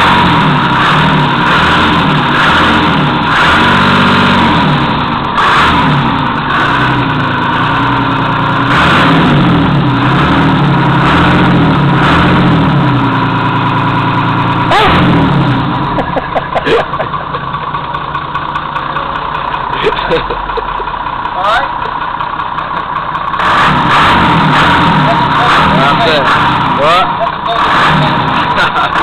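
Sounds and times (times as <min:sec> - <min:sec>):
diesel engine revving: 0:00.0 - 0:29.0.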